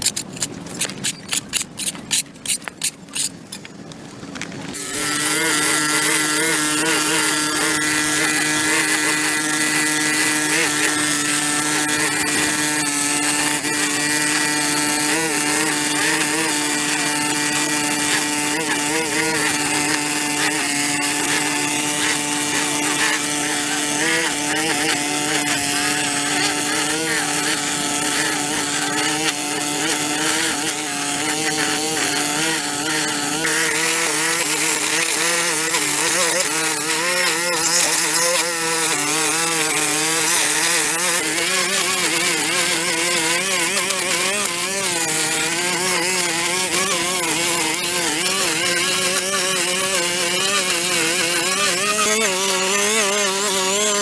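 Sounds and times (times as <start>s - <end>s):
small engine power tool running: 4.7s - 54.0s.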